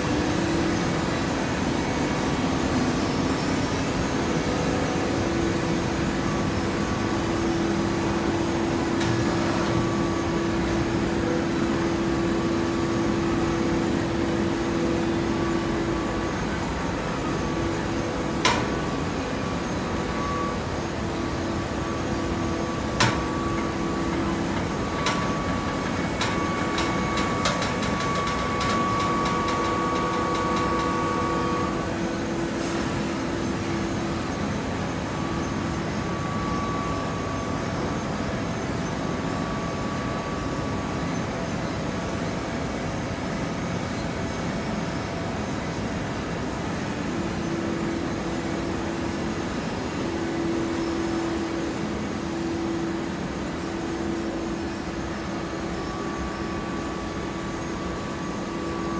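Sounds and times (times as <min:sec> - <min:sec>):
baler mechanical hum: 0:00.0 - 0:58.9.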